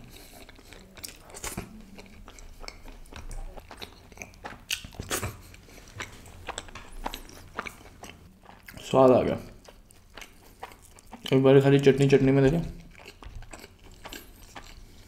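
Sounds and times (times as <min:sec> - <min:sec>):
wet chewing mouth sounds: 0:00.0 - 0:15.0.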